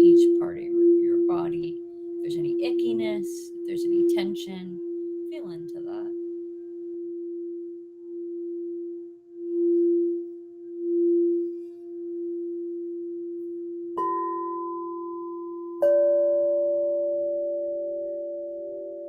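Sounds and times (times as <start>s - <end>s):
higher-pitched singing bowl struck: 0.0s - 19.0s
singing bowl ringing: 0.0s - 19.0s.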